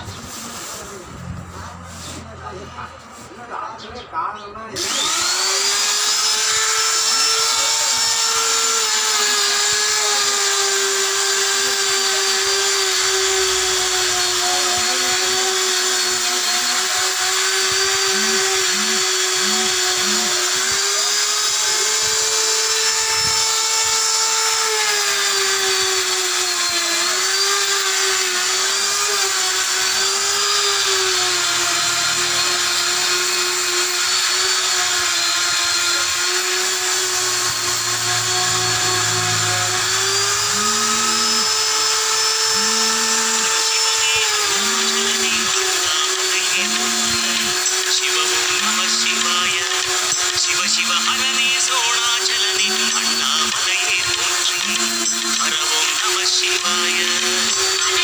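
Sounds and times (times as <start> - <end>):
rotary power tool whining: 0.0 - 3.4, 4.7 - 58.0.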